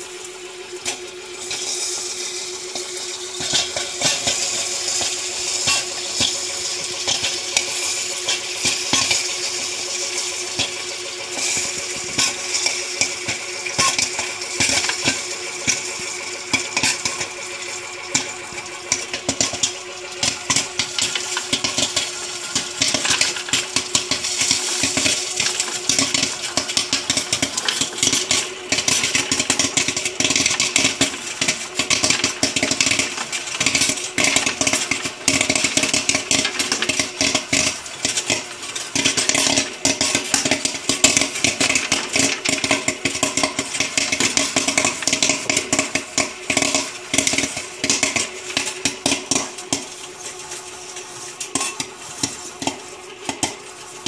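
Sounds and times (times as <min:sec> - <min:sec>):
machine humming: 0:00.0 - 0:54.0
popcorn kernels popping: 0:00.0 - 0:54.0.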